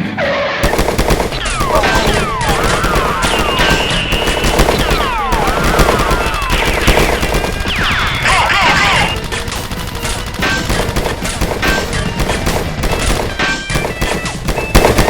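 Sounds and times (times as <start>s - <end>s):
automatic gunfire: 0.6s - 15.0s.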